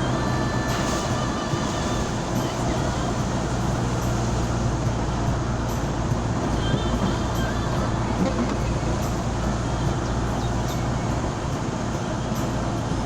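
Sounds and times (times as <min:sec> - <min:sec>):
road and traffic noise: 0:00.0 - 0:13.0
vehicle engine hum: 0:00.0 - 0:13.0.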